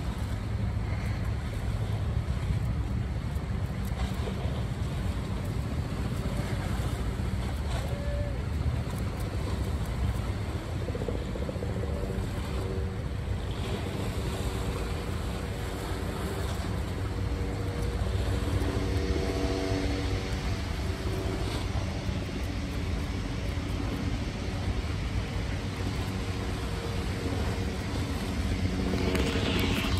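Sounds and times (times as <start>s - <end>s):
faint engine-like hum: 0.0s - 29.9s
wind buffeting microphone: 0.0s - 29.9s.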